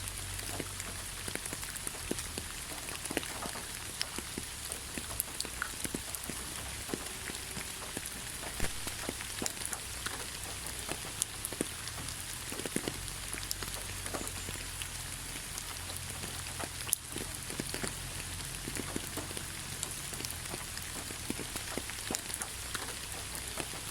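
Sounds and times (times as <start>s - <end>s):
raindrops striking: 0.0s - 23.9s
steady rain hiss: 0.0s - 23.9s.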